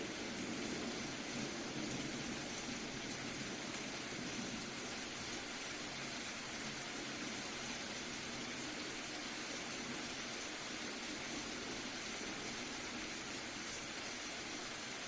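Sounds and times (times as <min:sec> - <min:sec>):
soft steady rain: 0:00.0 - 0:15.0.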